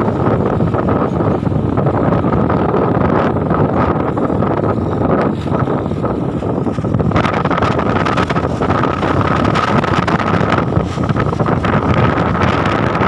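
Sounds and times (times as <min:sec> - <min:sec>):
vehicle rumble crossing bridge: 0:00.0 - 0:13.0
wind buffeting microphone: 0:00.0 - 0:13.0.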